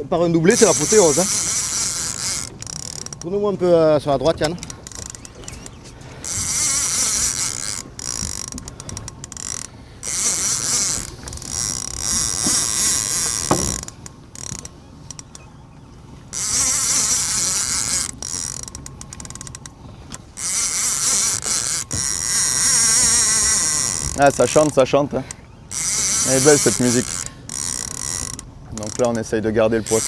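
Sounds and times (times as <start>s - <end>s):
fishing reel drag singing: 0.2s - 30.0s.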